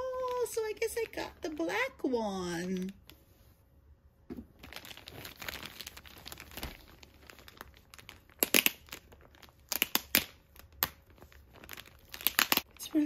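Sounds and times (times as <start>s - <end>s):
plastic wrapping crinkling: 0.0s - 2.0s, 4.5s - 13.0s.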